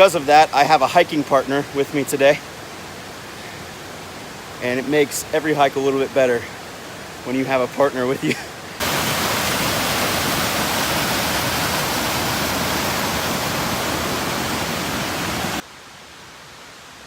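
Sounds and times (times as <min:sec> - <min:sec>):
water falling down a cascade: 0:00.0 - 0:15.6
quiet hiss: 0:00.0 - 0:17.0.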